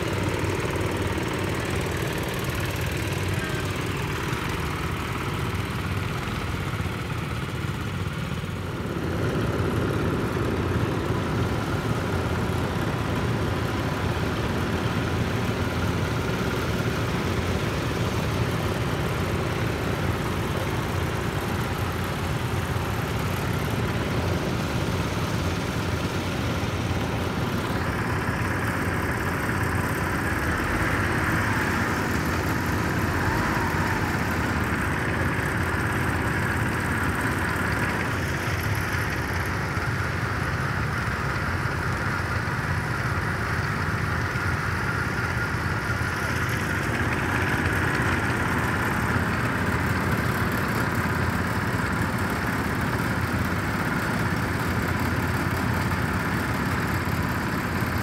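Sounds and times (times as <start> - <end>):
small tractor engines running: 0.0 - 58.0.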